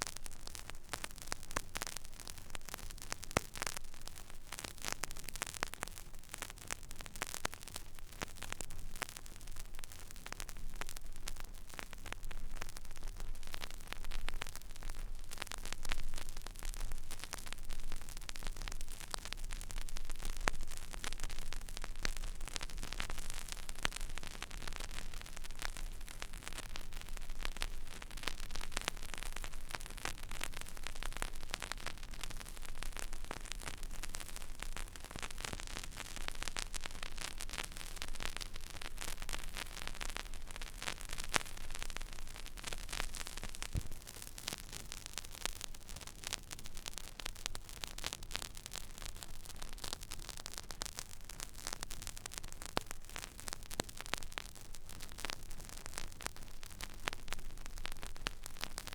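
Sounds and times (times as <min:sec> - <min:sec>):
vinyl surface hiss and crackle: 0:00.0 - 0:58.9.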